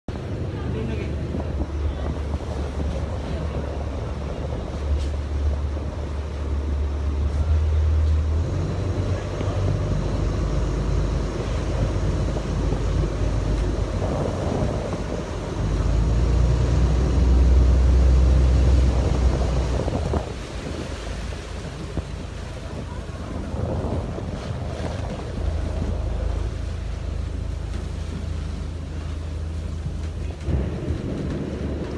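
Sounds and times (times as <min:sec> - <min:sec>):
motorboat rumble: 0:00.0 - 0:31.9
wind buffeting microphone: 0:00.1 - 0:31.9.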